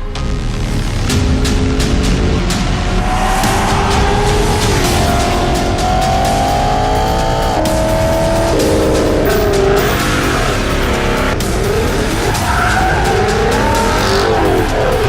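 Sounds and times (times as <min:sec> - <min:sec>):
car engine: 0:00.0 - 0:15.0
loud background music: 0:00.0 - 0:15.0
car tyres squealing: 0:00.9 - 0:15.0.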